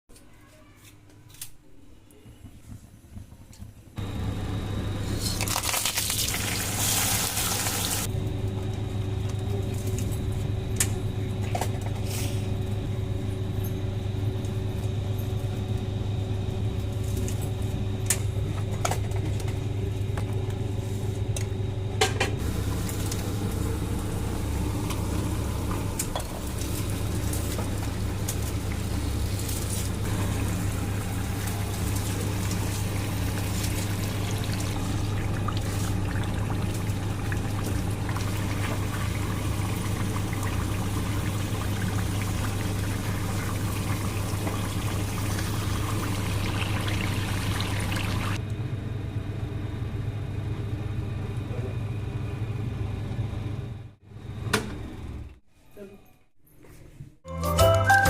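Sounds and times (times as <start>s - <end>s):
steady low hum: 1.6s - 7.1s, 7.9s - 55.8s.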